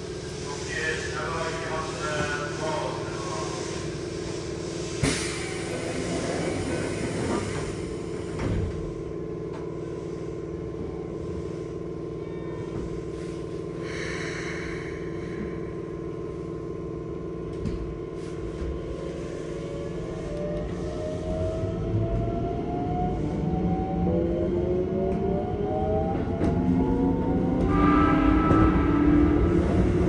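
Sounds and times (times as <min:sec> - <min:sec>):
electric train equipment hum: 0:00.0 - 0:30.0.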